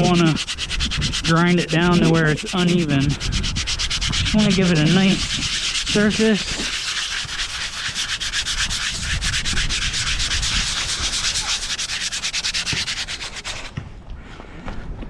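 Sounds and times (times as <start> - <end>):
brake pad rasping on sandpaper: 0.0 - 13.8.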